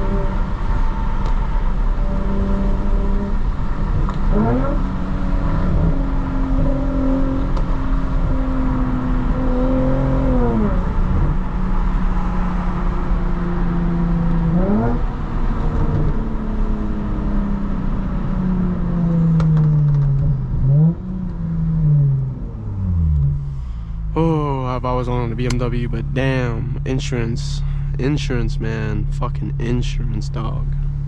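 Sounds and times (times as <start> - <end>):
loud car exhaust cruising: 0.0 - 31.0.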